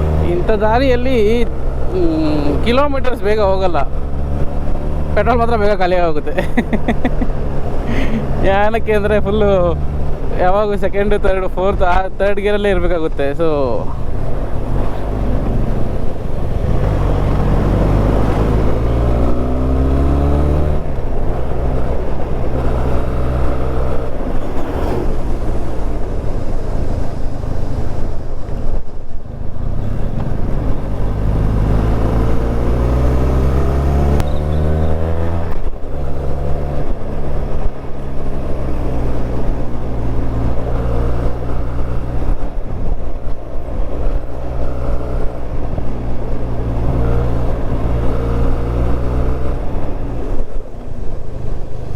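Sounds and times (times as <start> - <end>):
motorcycle engine revving: 0.0 - 10.5, 14.0 - 28.2, 29.6 - 50.5.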